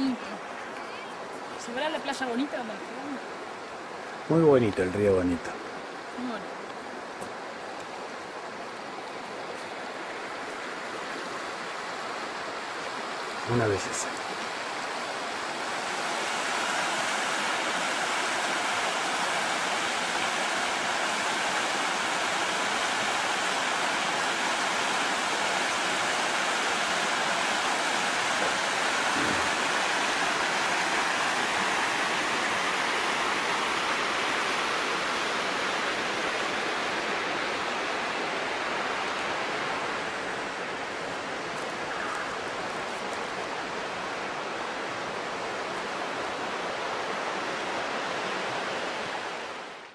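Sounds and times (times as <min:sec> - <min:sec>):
river water rushing over rocks: 0:00.0 - 0:49.9.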